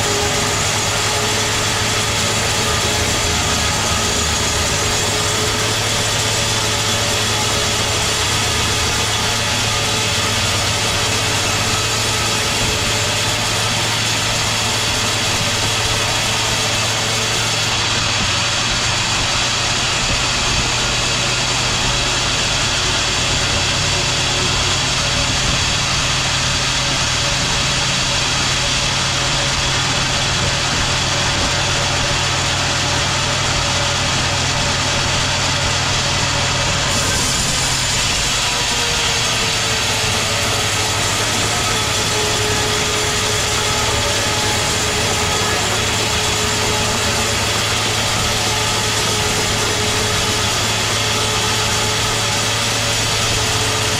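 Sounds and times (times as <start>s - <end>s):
sawmill machinery humming: 0.0s - 53.9s.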